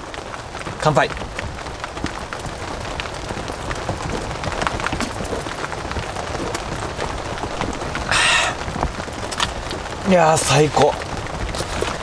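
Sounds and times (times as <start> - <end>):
rain on tent fabric: 0.0 - 12.0.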